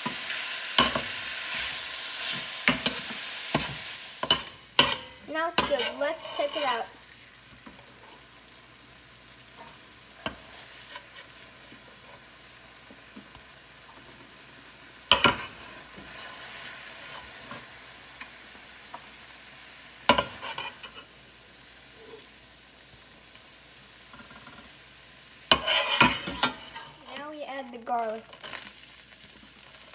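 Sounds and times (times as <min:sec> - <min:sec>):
meat sizzling in frying pan: 0:00.0 - 0:29.9.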